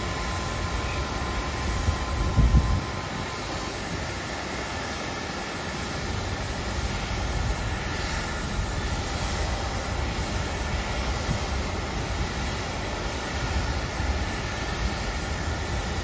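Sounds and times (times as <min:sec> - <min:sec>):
high-pitched jet whine: 0:00.0 - 0:16.0
jet airliner low rumble: 0:00.0 - 0:16.0.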